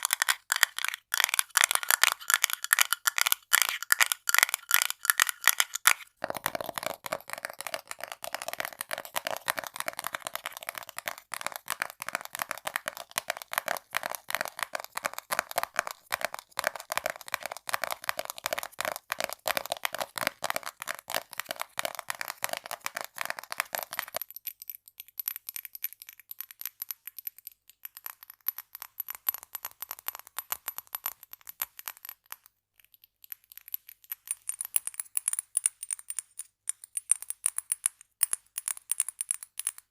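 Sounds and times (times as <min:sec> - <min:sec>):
fast tapping on small objects: 0:00.0 - 0:39.9.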